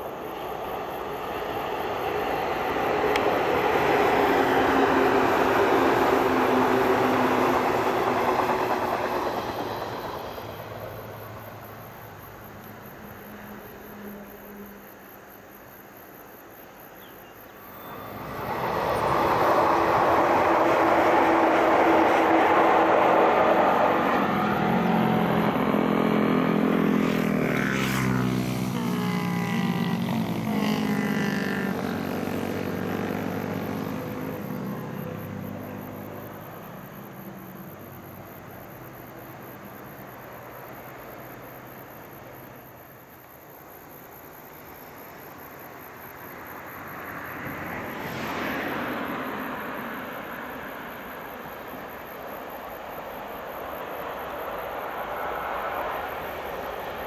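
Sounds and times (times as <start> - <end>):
train wheels and rail noise: 0.0 - 57.0.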